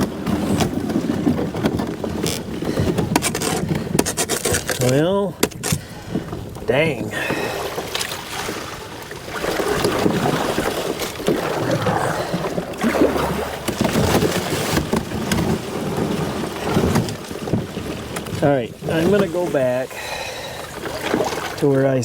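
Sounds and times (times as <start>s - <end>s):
canoe hull grinding on ice: 0.0s - 22.0s.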